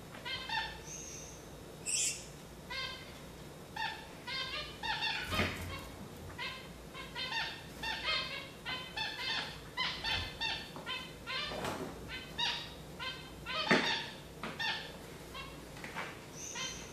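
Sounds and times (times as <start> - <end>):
finches chirping: 0.2 - 3.0, 3.8 - 15.6, 16.3 - 16.9.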